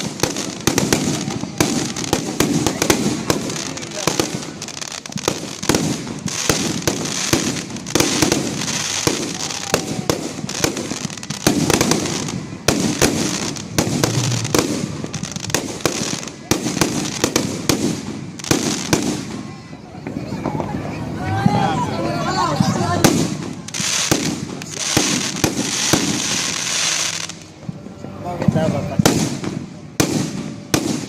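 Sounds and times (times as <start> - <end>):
crowd chatter: 0.0 - 31.0
fireworks bangs and pops: 0.0 - 31.0.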